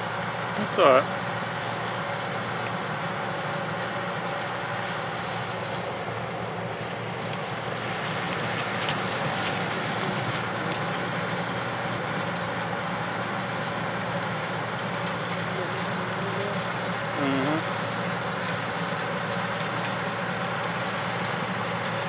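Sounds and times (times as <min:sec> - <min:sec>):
heavy diesel machinery drone: 0:00.0 - 0:22.0.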